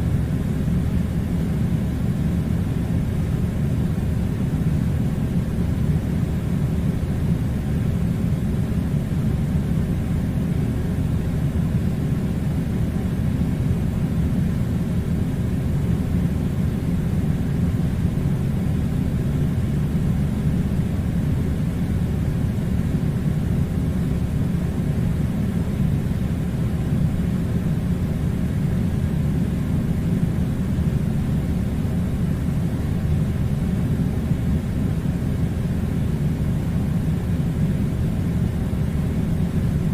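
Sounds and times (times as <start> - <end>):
air conditioner blowing: 0.0 - 39.9.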